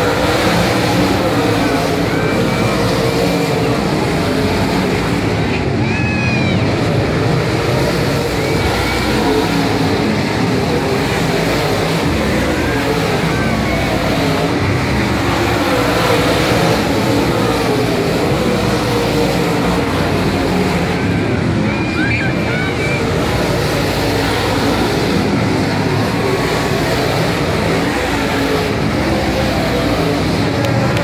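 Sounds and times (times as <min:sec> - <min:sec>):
race car engines roaring: 0:00.0 - 0:31.0.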